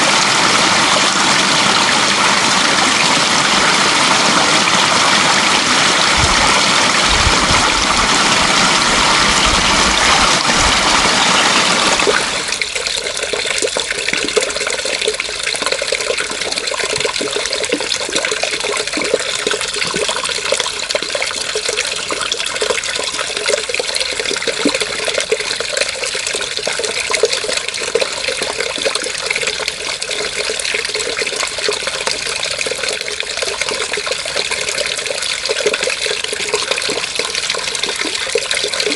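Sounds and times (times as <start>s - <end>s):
water rushing and trickling: 0.0s - 38.9s.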